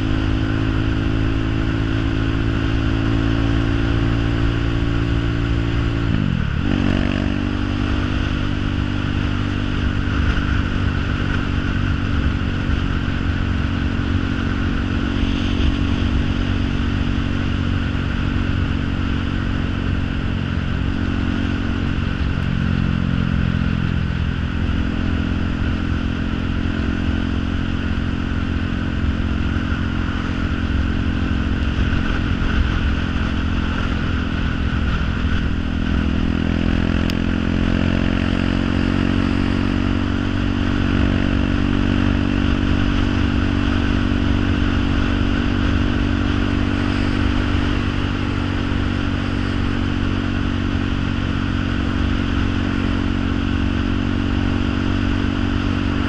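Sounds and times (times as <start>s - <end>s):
engine droning: 0.0s - 56.0s.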